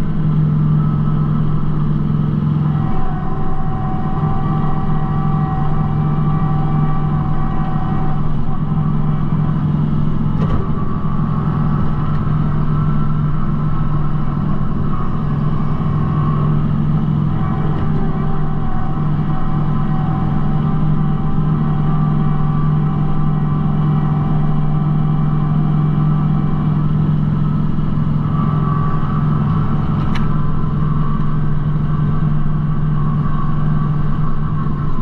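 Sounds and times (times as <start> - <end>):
steady whine: 0.0 - 35.0
tractor diesel engine running: 0.0 - 35.0.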